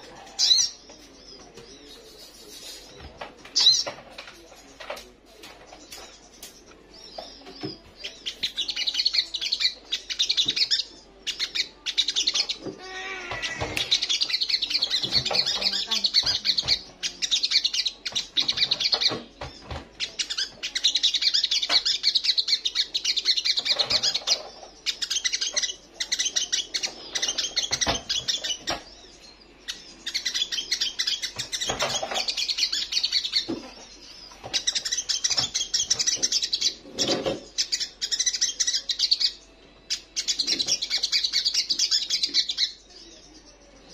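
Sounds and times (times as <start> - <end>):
sunbird twittering song: 5.5 - 43.9.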